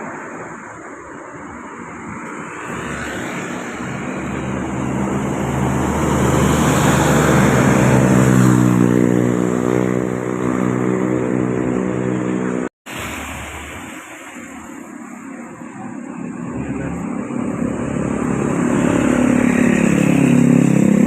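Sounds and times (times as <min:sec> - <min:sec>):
bus passing by: 0:00.0 - 0:21.0.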